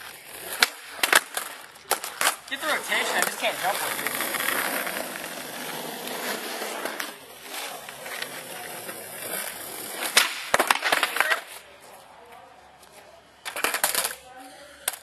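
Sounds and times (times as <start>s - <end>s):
skateboard rolling: 0.0s - 12.1s, 13.5s - 14.2s.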